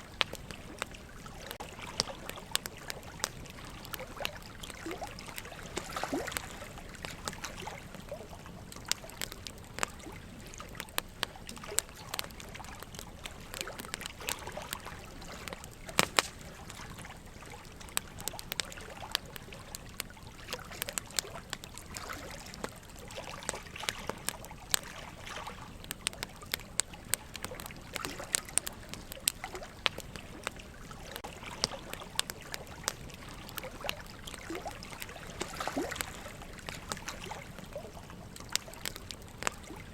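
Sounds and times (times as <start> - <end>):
burning logs crackling: 0.0 - 39.9
water trickling: 0.0 - 39.9.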